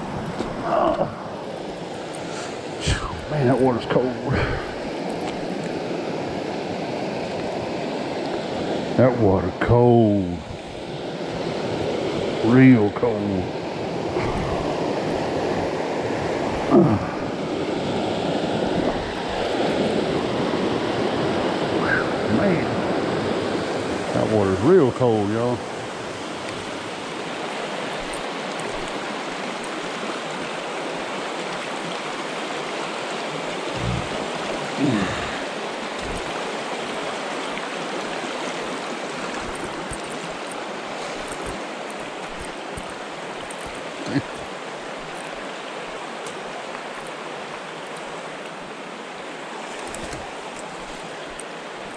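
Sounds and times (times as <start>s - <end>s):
creek rushing over rocks: 0.0s - 51.9s.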